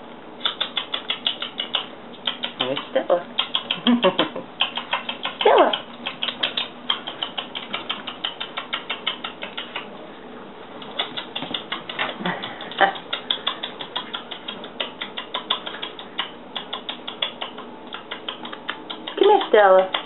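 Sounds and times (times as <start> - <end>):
puppy claws clicking on tile: 0.4 - 9.9, 10.8 - 20.0.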